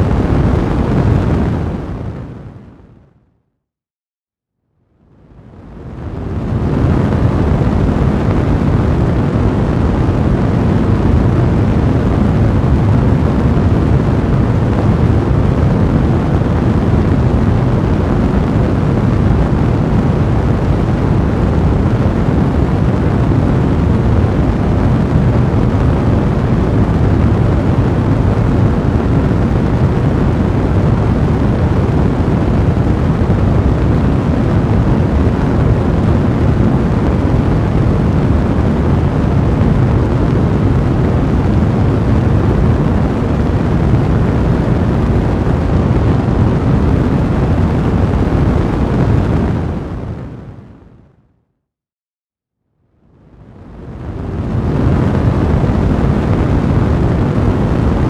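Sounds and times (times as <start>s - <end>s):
fire roaring: 0.0s - 2.8s, 5.3s - 50.6s, 53.6s - 58.0s.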